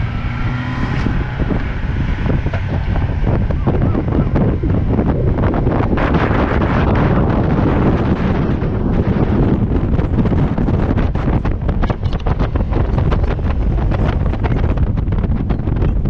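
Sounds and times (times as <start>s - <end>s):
outboard motor droning: 0.0s - 16.0s
wind buffeting microphone: 0.0s - 16.0s.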